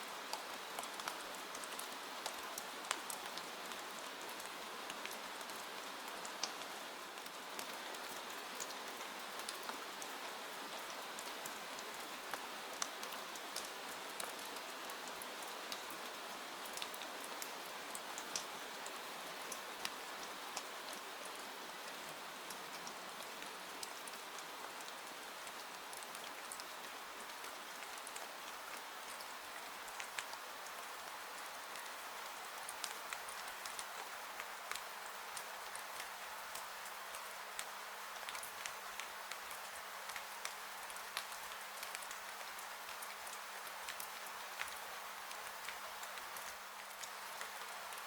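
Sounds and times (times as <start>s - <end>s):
steady rain hiss: 0.0s - 48.0s
ticks of raindrops: 0.1s - 48.0s.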